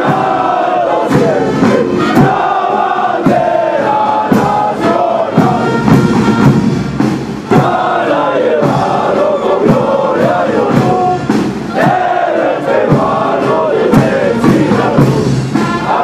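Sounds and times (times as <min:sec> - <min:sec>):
many voices singing together: 0:00.0 - 0:06.0, 0:07.5 - 0:16.0
drum beats: 0:00.0 - 0:16.0.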